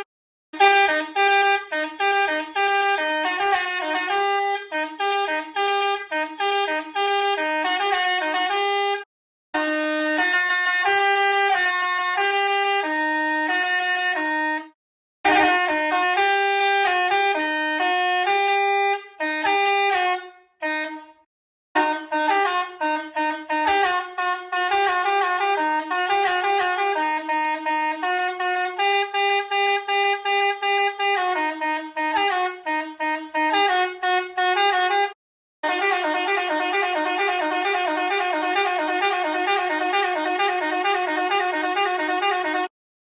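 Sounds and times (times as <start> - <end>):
multi-tone air horn playing tune: 0.0 - 42.8.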